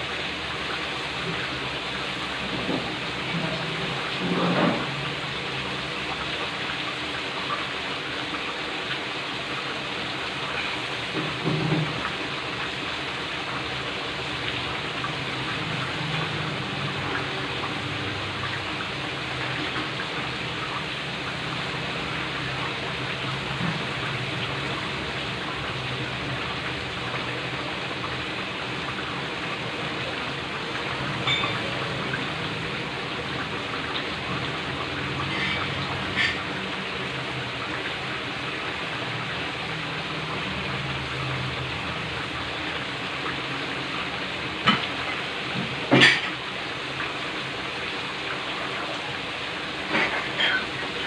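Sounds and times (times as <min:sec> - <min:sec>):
oil sizzling and bubbling: 0:00.0 - 0:51.0.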